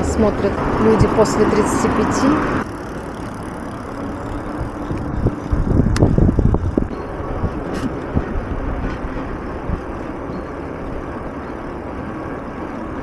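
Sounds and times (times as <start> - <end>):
low rumbling: 0.0 - 13.0
street and riding noise: 0.0 - 13.0.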